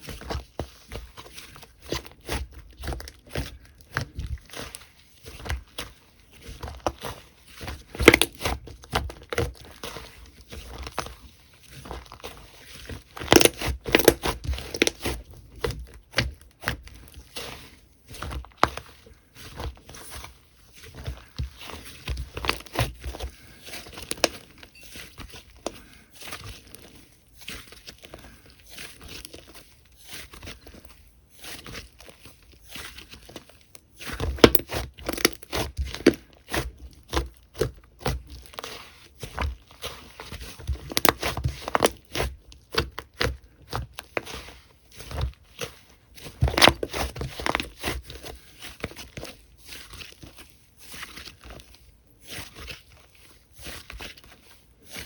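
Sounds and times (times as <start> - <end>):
slime crackling and popping: 1.8 - 30.9, 31.6 - 51.7.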